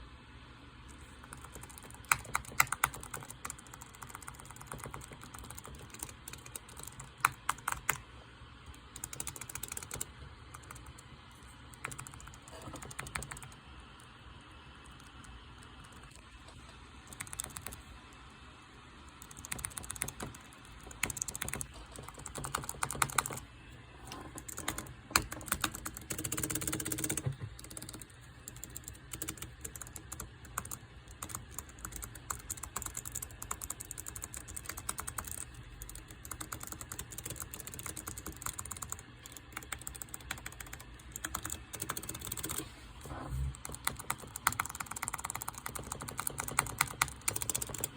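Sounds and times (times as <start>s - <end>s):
mechanical keyboard typing: 0.9s - 8.0s, 8.7s - 11.0s, 11.7s - 14.1s, 17.0s - 17.9s, 19.1s - 23.5s, 24.1s - 47.9s.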